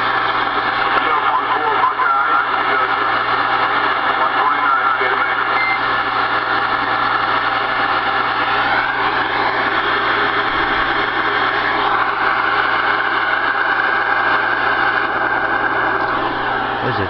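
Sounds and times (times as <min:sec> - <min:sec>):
radio static rushing: 0:00.1 - 0:17.0.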